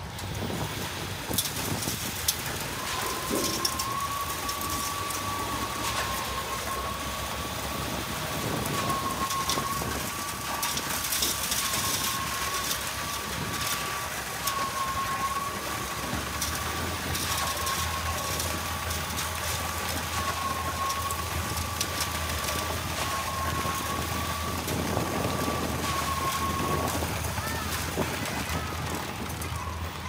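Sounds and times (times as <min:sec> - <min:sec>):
concrete pump engine drone: 0:00.0 - 0:30.0.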